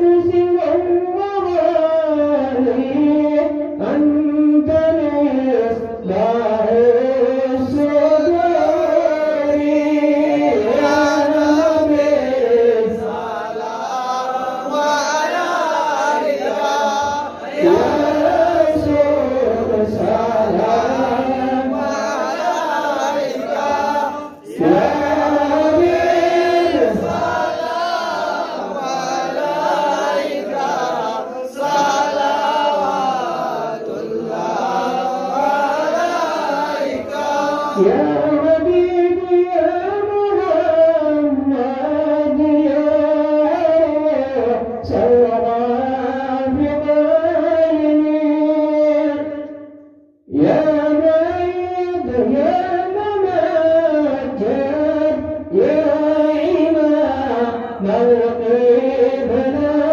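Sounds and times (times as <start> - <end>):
men chanting through microphones: 0.0 - 49.4, 50.3 - 59.9.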